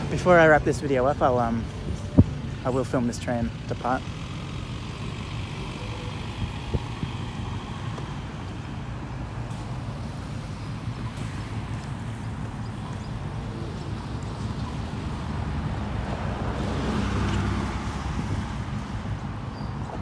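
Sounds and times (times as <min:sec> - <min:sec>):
cars driving past: 0:00.0 - 0:20.0.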